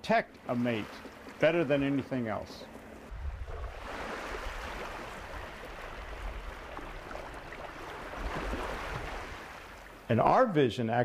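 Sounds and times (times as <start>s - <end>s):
water lapping at shoreline: 0.0s - 10.2s.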